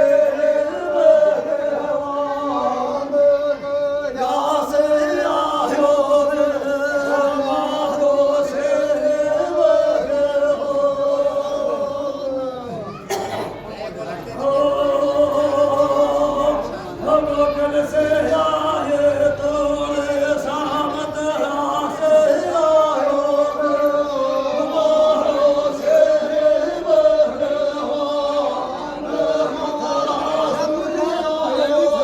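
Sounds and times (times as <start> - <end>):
man singing devotional song: 0.0 - 13.0, 14.0 - 32.0.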